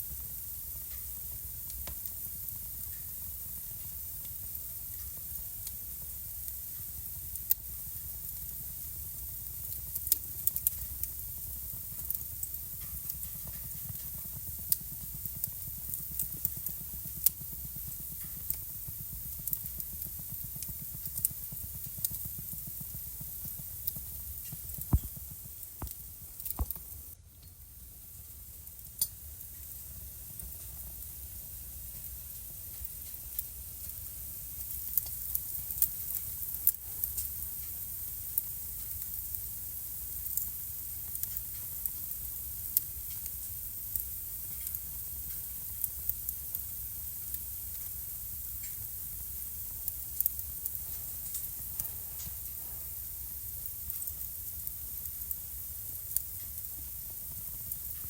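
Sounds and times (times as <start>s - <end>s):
low rumble of flames: 0.0s - 58.0s
crackling wood pops and snaps: 0.7s - 6.6s, 7.2s - 27.6s, 28.7s - 31.1s, 31.9s - 58.0s.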